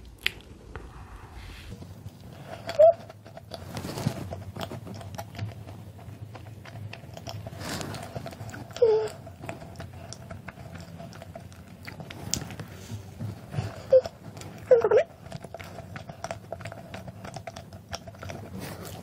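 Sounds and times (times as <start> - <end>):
chewing with mouth clicks: 1.7 - 19.0.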